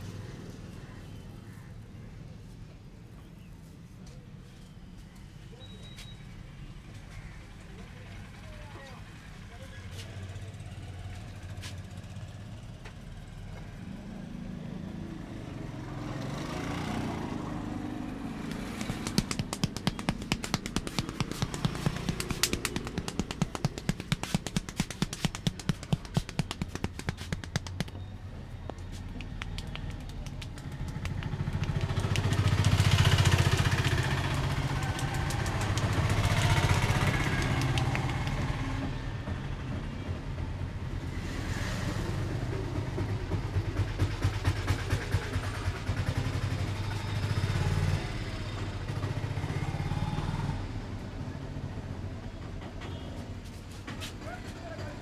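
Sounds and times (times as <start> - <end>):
vehicles passing: 0.0 - 5.6, 6.2 - 55.0.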